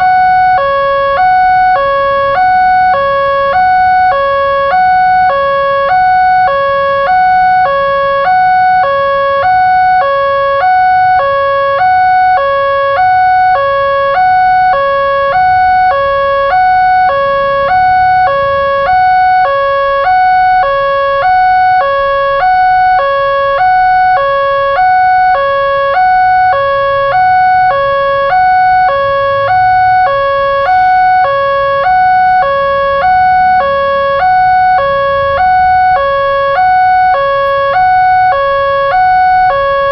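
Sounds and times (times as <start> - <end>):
railroad crossing alarm ding-dong: 0.0 - 39.9.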